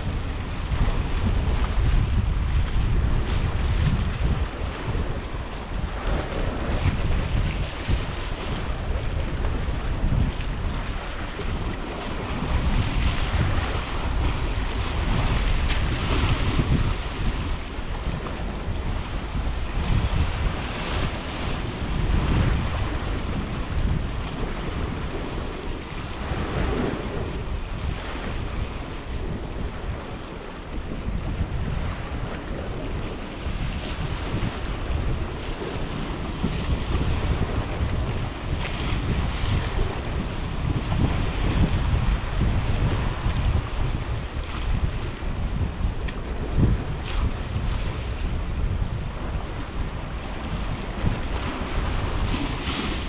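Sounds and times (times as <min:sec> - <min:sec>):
sea waves on shore: 0:00.0 - 0:53.0
wind buffeting microphone: 0:00.0 - 0:53.0.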